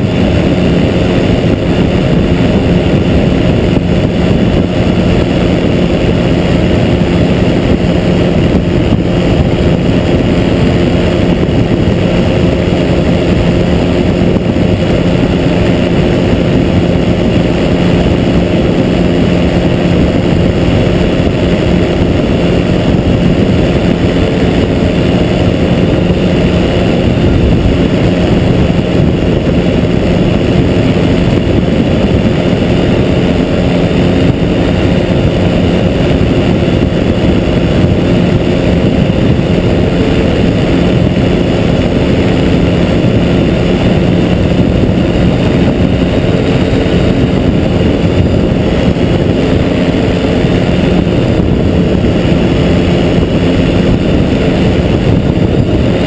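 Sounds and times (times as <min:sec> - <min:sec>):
microlight engine droning: 0:00.0 - 0:56.0
wind rushing over microphone: 0:00.0 - 0:56.0.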